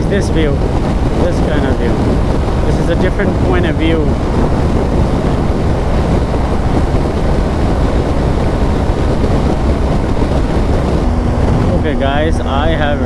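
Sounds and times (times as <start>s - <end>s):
motorcycle engine: 0.0s - 13.0s
road noise: 0.0s - 13.0s
wind rushing on microphone: 0.0s - 13.0s.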